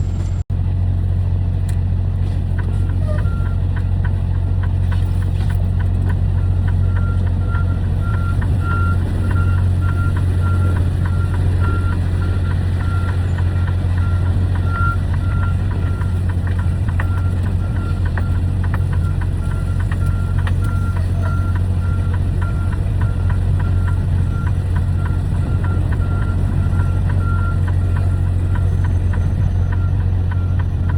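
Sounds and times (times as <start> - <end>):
truck engine humming: 0.0 - 30.9.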